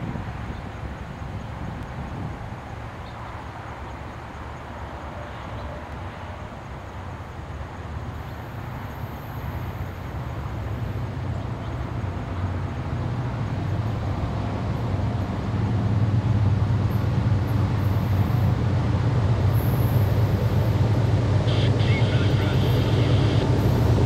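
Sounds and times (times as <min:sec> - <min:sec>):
diesel locomotive engine rumble: 0:00.0 - 0:24.0.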